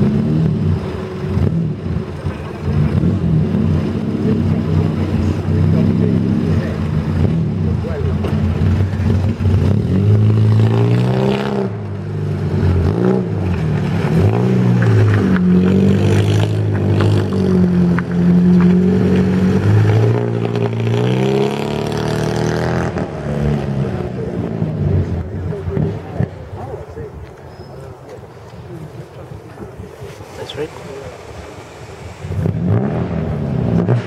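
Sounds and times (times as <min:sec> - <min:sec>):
car engine revving: 0:00.0 - 0:27.3, 0:29.0 - 0:34.0.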